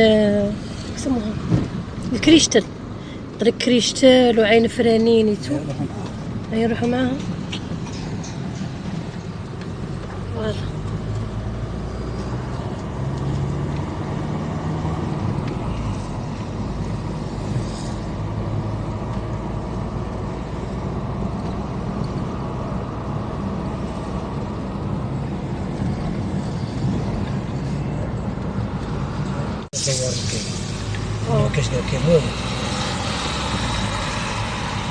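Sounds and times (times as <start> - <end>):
car engine hum: 0.0 - 34.9
tyre and road noise: 0.0 - 34.9.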